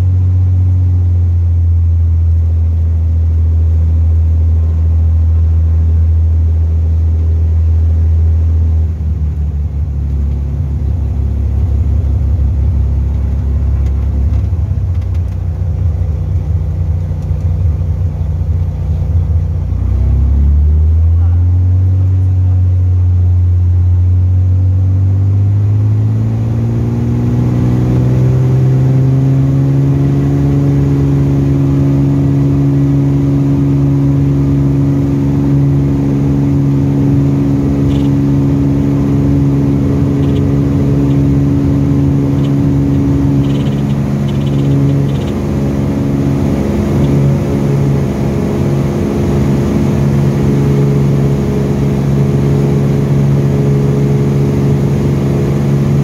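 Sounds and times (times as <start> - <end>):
aircraft piston engine and propeller: 0.0 - 56.0.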